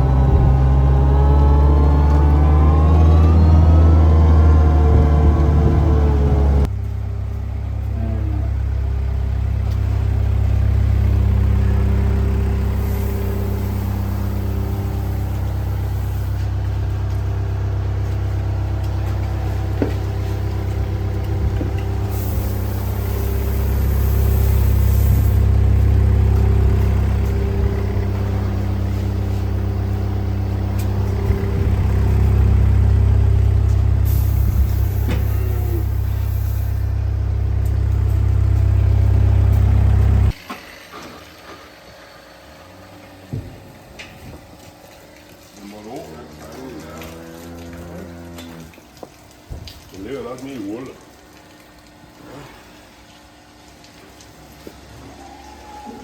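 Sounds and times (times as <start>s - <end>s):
engine humming: 0.0s - 49.1s.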